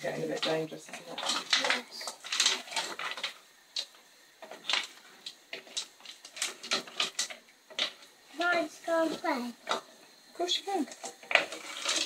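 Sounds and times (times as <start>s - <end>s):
spoon scraping pan and stones: 0.0s - 12.0s.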